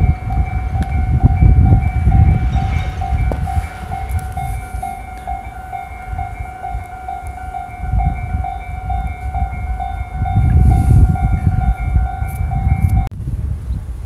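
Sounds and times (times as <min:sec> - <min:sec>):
level-crossing alarm ringing: 0:00.0 - 0:13.1
low rumble: 0:00.0 - 0:13.6.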